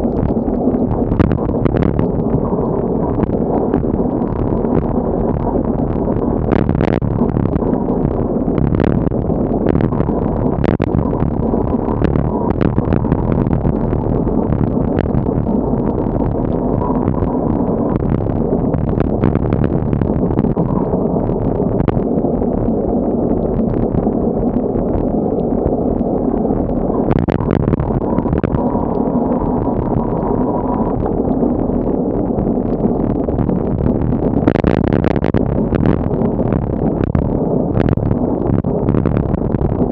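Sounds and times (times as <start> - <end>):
strong wind on microphone: 0.0 - 39.9.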